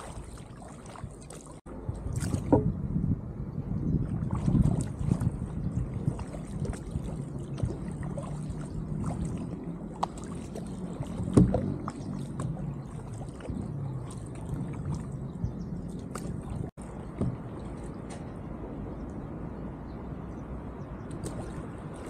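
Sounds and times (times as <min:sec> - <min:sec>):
small splashes: 0:00.0 - 0:02.6, 0:04.0 - 0:18.4, 0:21.1 - 0:22.0
water lapping against kayak: 0:00.0 - 0:02.9, 0:04.0 - 0:19.2, 0:21.0 - 0:22.0.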